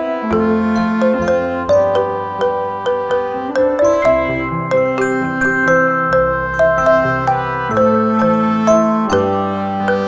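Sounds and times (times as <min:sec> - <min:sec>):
instrumental melody of struck notes: 0:00.0 - 0:10.0.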